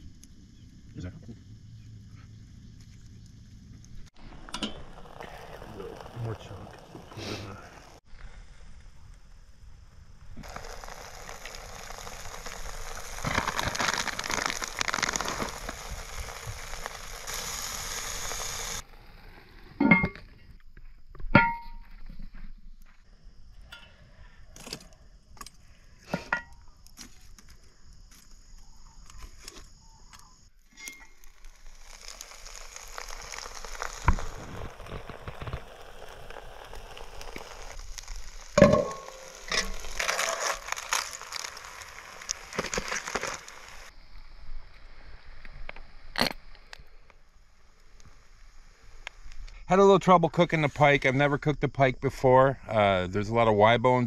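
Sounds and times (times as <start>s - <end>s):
campfire crackling hiss: 0.0s - 54.0s.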